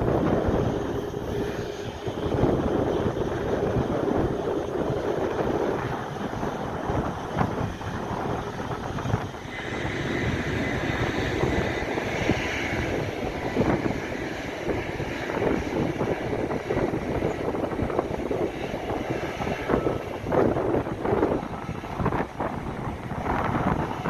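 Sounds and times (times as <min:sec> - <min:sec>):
jet engine rumble: 0:00.0 - 0:24.0
wind buffeting microphone: 0:00.0 - 0:24.0.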